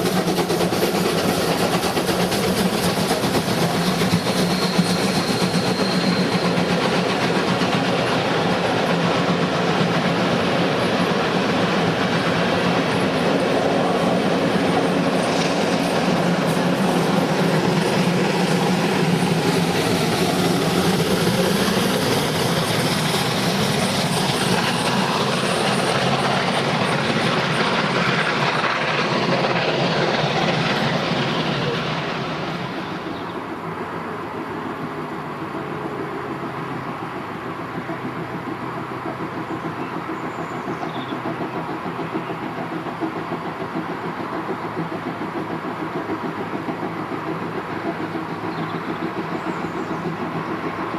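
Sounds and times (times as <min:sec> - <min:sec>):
train passing on rails: 0:00.0 - 0:50.9.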